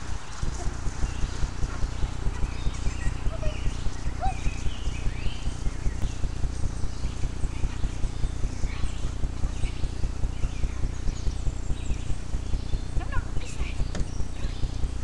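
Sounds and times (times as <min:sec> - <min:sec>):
bird chirps: 0:00.0 - 0:15.0
low thumping: 0:00.0 - 0:15.0.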